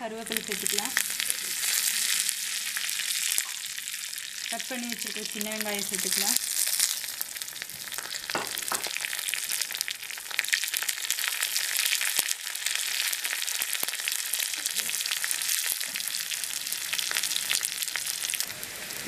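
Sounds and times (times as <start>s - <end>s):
shallots sizzling in hot oil: 0.0s - 19.0s.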